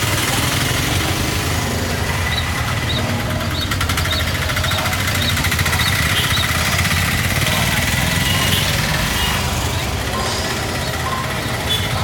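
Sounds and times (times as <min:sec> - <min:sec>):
vehicle engine pulsing rumble: 0:00.0 - 0:12.0.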